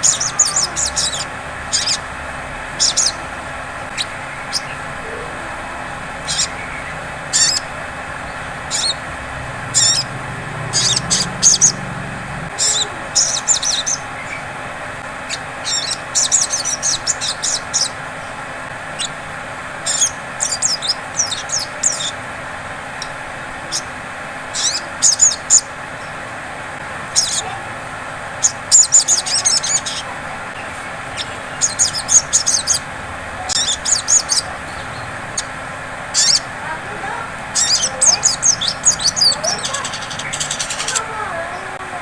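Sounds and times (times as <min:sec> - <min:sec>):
songbird chirping: 0:00.0 - 0:19.2, 0:19.8 - 0:22.2, 0:27.1 - 0:27.7, 0:28.4 - 0:42.0.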